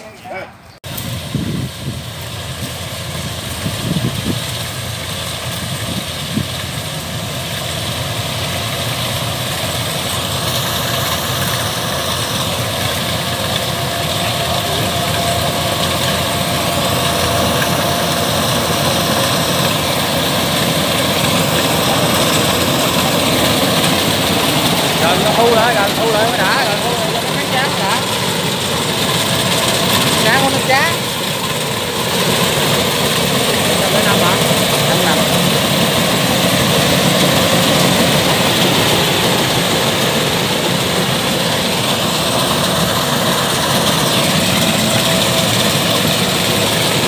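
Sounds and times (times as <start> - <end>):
combine harvester engine drone: 0.0 - 47.0.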